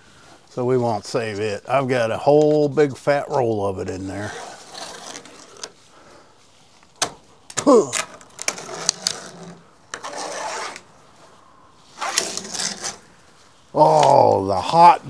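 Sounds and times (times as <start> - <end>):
screen mesh rustling and scraping: 0.6 - 6.0, 6.6 - 14.3.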